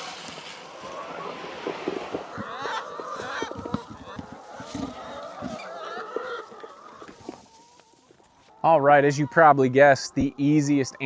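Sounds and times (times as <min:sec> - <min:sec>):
hens calling and squawking: 0:00.0 - 0:11.0.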